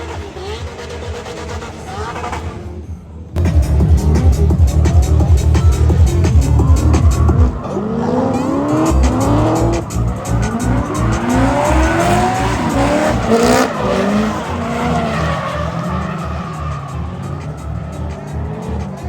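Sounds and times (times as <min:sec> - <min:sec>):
race car engine running hard: 0:00.0 - 0:19.0
tires squealing: 0:00.0 - 0:19.0.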